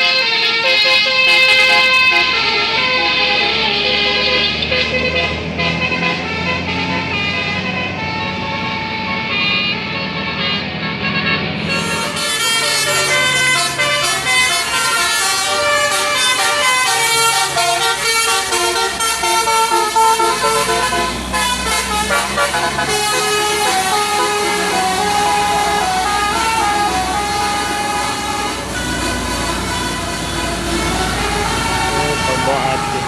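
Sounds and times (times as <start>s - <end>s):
musical air horn melody: 0.0s - 33.0s.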